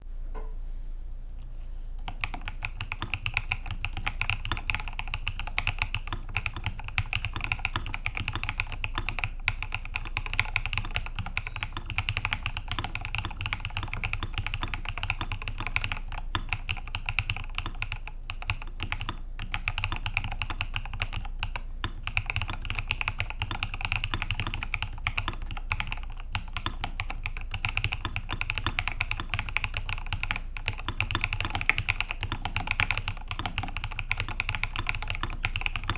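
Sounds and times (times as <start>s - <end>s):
fast typing on mechanical keyboard: 2.0s - 35.9s.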